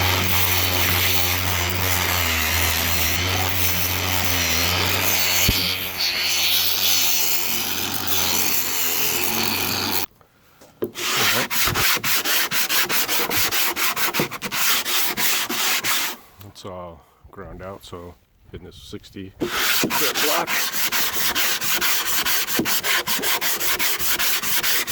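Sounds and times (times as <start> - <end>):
grinder on fiberglass: 0.0 - 10.1, 10.9 - 16.2, 19.4 - 24.9
sanding block scraping: 0.0 - 10.1, 10.8 - 16.2, 19.4 - 24.9.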